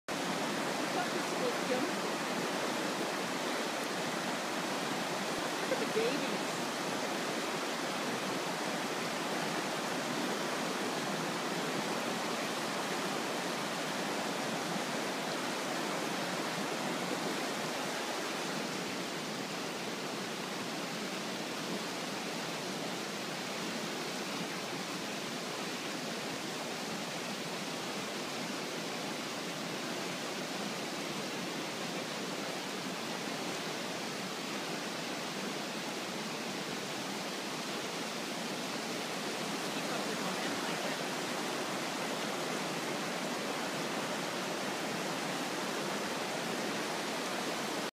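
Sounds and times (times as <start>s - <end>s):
river rapids rushing: 0.1s - 47.9s.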